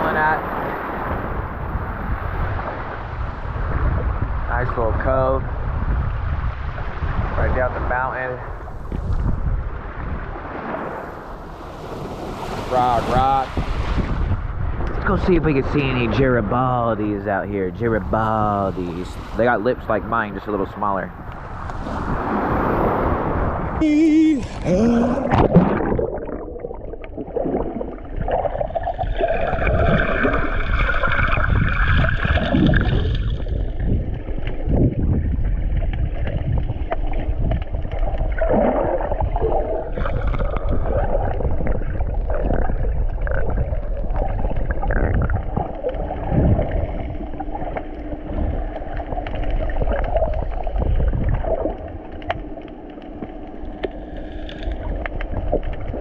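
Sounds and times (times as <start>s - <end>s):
muffled water sloshing and gurgling: 0.0s - 56.0s.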